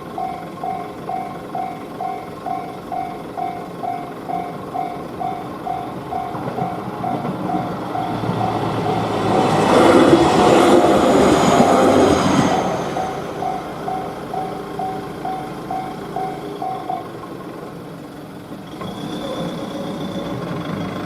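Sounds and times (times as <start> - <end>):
level crossing bell ringing: 0.0 - 17.6
electric train passing: 0.0 - 21.0.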